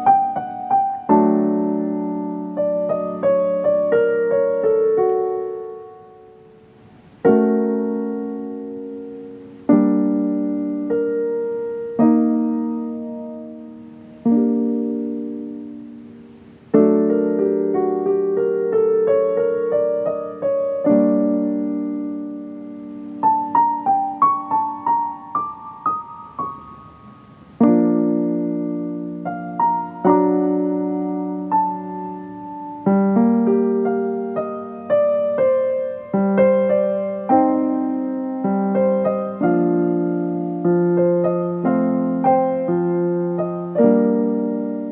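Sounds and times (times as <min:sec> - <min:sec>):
slow solo piano music: 0:00.0 - 0:44.9.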